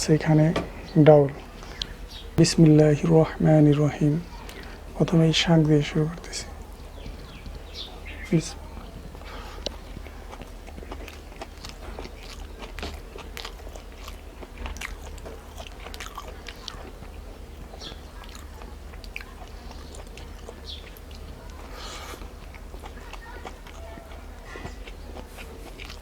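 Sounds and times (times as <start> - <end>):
person chewing food: 0.5 - 2.9, 3.8 - 26.0.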